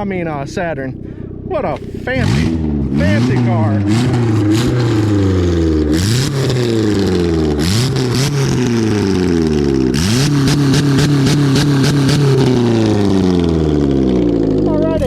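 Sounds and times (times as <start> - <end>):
car engine revving loud exhaust: 0.0 - 15.0.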